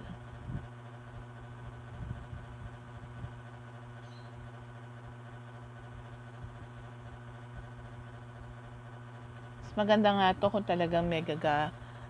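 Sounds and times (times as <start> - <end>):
hot-air brush humming: 0.0 - 12.0.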